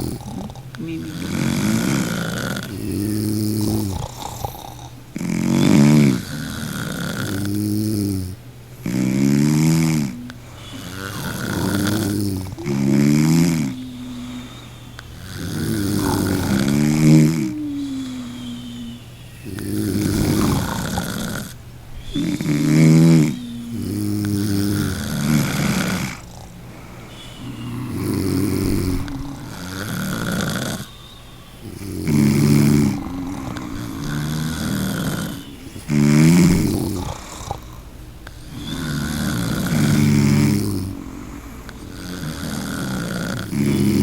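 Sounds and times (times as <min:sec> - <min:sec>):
person snoring: 0:00.0 - 0:44.0.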